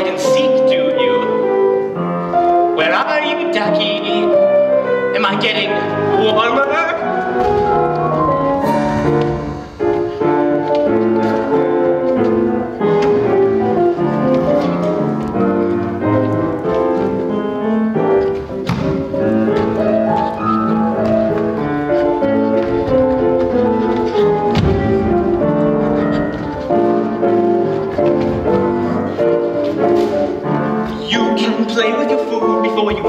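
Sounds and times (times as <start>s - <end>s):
piano-led instrumental music: 0.0s - 33.0s.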